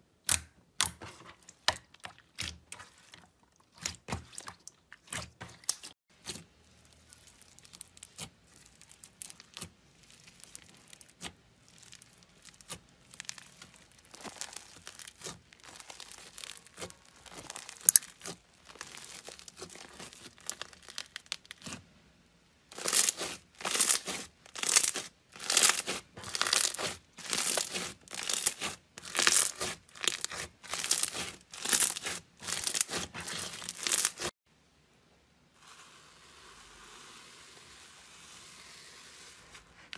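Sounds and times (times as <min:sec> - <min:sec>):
slime squelching and crackling: 0:00.3 - 0:21.9, 0:22.7 - 0:34.4.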